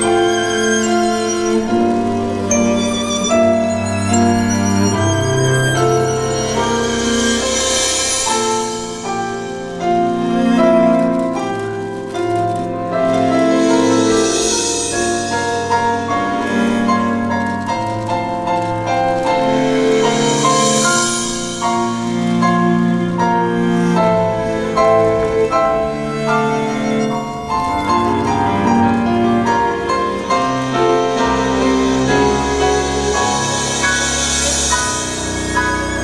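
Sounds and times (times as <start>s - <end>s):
instrumental music: 0.0s - 36.0s.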